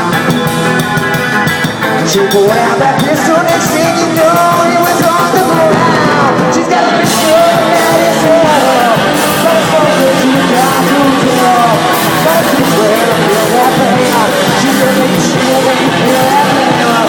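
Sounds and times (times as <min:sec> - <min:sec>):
bending melodic line: 0:00.0 - 0:17.0
rock band playing live: 0:00.0 - 0:17.0.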